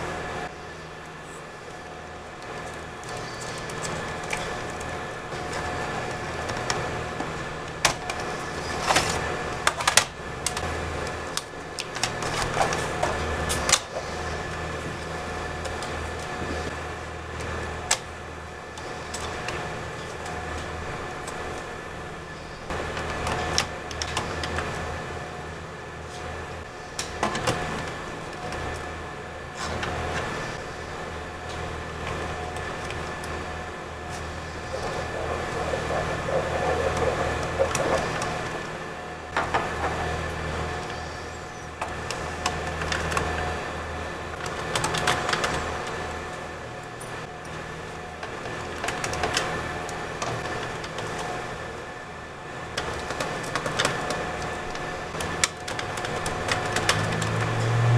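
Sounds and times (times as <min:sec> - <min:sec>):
low background hum: 0:00.0 - 0:57.9.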